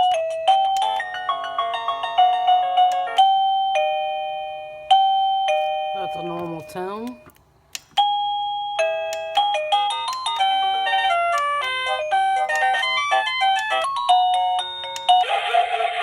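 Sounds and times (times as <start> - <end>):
doorbell chime melody: 0.0 - 7.3, 8.0 - 15.9.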